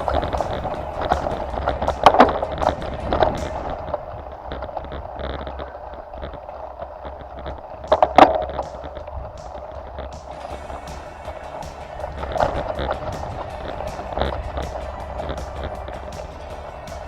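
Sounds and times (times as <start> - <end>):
vehicle rumble with rattles: 0.0 - 17.0.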